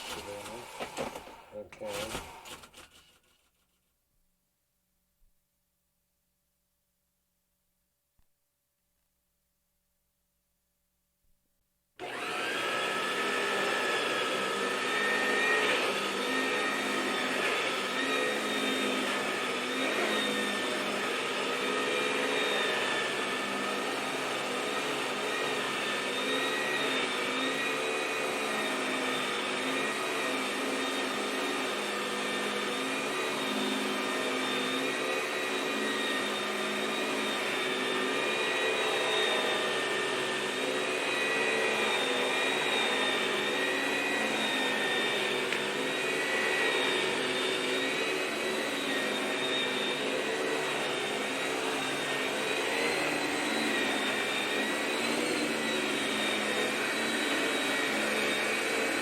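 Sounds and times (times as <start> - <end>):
vacuum cleaner motor running: 0.0 - 3.0, 12.0 - 59.0.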